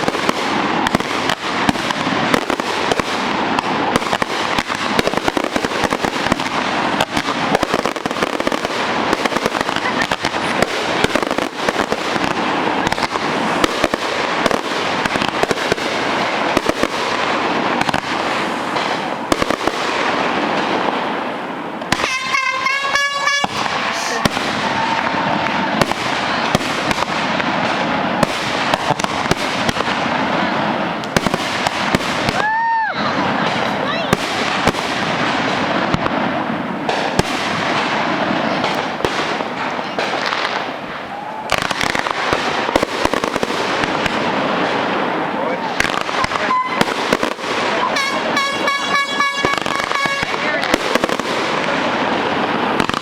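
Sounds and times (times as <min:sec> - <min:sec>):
fireworks bangs and crackling: 0:00.0 - 0:53.0
whistling firework: 0:00.0 - 0:53.0.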